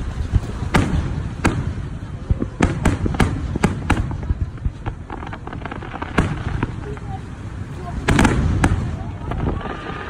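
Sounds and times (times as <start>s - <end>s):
low rumble of distant reports: 0.0s - 10.0s.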